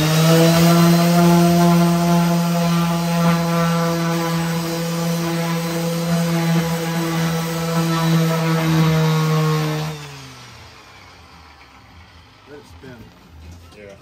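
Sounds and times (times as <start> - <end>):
orbital sander running: 0.0 - 13.0.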